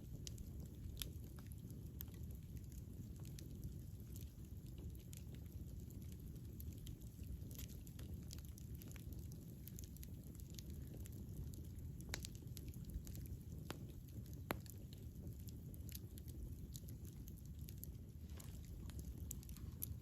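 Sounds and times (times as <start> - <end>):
campfire flames rumbling: 0.0 - 20.0
fire crackling and popping: 0.0 - 20.0.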